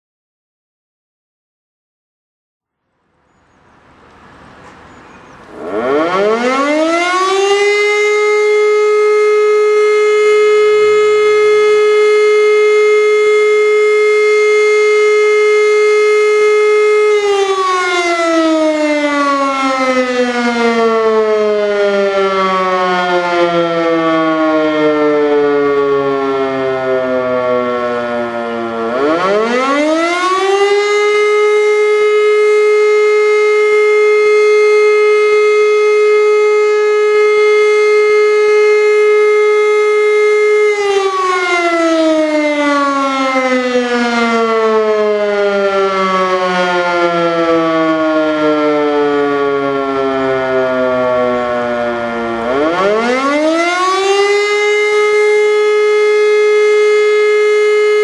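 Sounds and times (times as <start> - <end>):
electromechanical siren wailing: 3.6 - 58.0.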